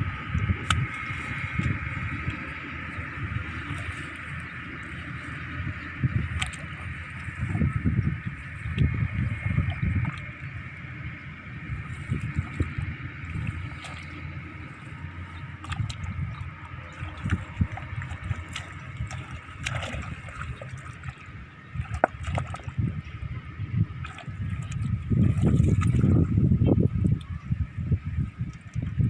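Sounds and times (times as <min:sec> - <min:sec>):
river water sloshing and gurgling: 0:00.0 - 0:29.0.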